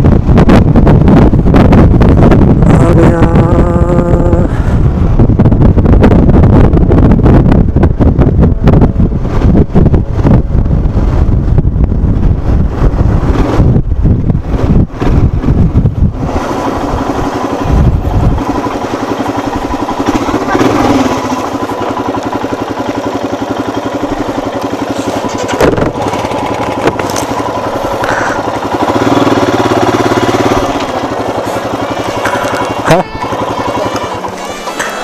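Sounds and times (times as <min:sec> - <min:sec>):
wind buffeting microphone: 0:00.0 - 0:34.4
motorcycle engine running: 0:00.0 - 0:35.0.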